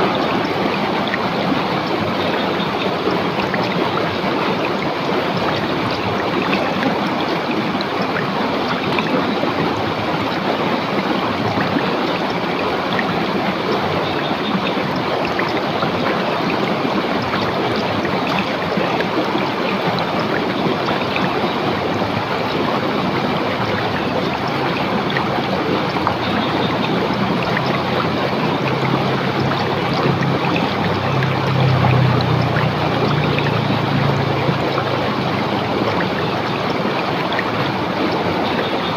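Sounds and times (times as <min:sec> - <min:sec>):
river water rushing over stones: 0:00.0 - 0:38.9.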